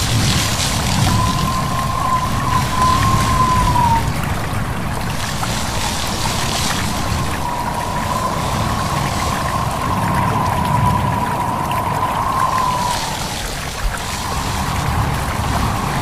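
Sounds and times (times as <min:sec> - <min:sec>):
rushing wind: 0:00.0 - 0:16.0
stream water: 0:00.0 - 0:16.0
wind whistling: 0:00.0 - 0:16.0.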